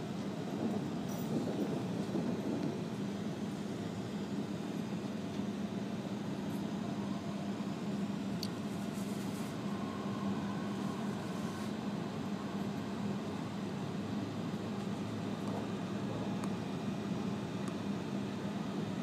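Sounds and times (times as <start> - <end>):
train cabin rumble: 0.0 - 16.8
continuous low hum: 0.0 - 19.0.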